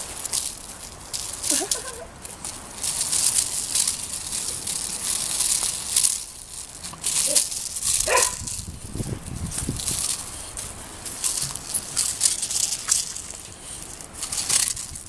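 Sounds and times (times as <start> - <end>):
dry leaves and grass rustling: 0.0 - 15.0.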